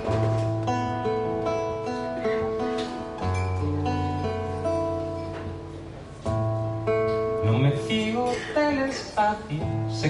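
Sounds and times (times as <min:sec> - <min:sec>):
nylon-string acoustic guitar chords: 0:00.0 - 0:10.0.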